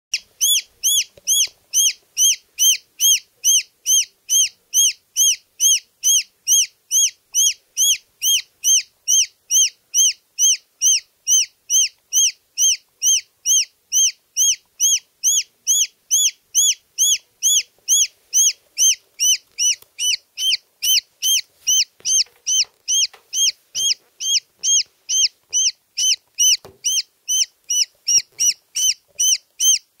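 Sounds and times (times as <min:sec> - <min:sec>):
baby chick peeping: 0:00.1 - 0:30.0.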